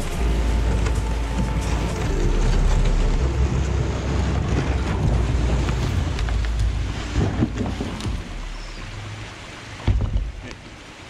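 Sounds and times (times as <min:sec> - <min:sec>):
kayak scraping and knocking on dirt: 0:00.0 - 0:08.8, 0:09.8 - 0:10.4.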